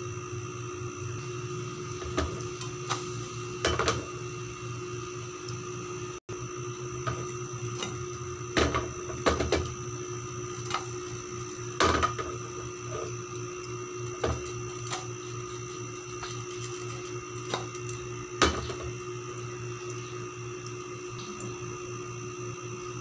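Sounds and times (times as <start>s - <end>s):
bread frying with faint sizzle: 0.0s - 23.0s.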